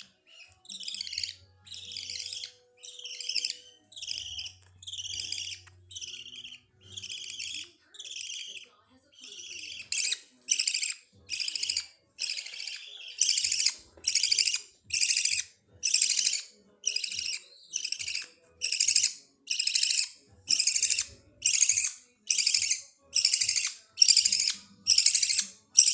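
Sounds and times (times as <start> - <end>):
budgerigar chicks begging calls: 0.0 - 25.9.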